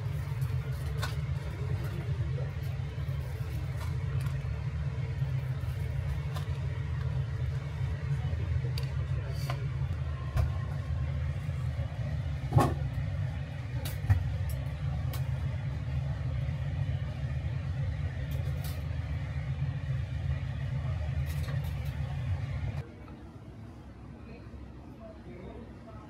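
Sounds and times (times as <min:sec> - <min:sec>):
kitchen machinery hum: 0:00.0 - 0:26.0.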